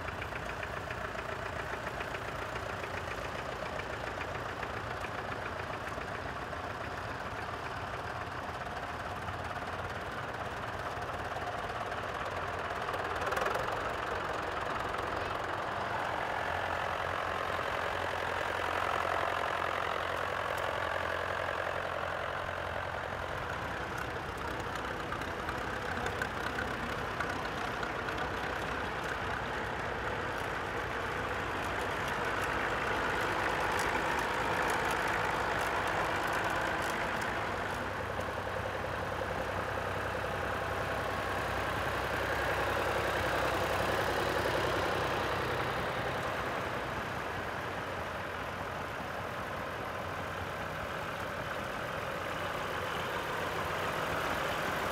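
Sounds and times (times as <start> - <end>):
tractor engine idling: 0.0 - 54.9.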